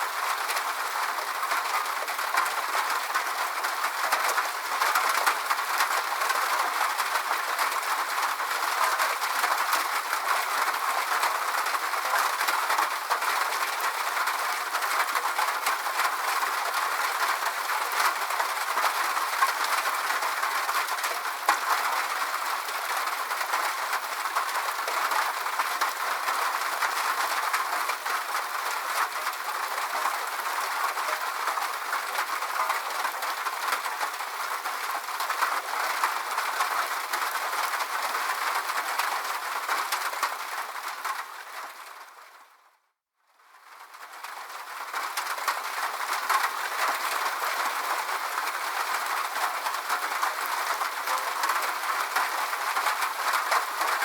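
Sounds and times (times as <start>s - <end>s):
steady rain falling: 0.0s - 42.8s, 43.4s - 54.0s.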